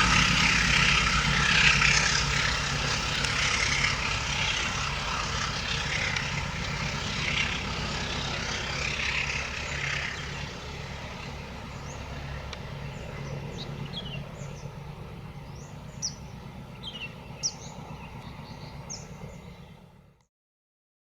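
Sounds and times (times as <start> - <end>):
diesel train engine rumble: 0.0 - 20.3
small birds chirping: 1.6 - 19.9.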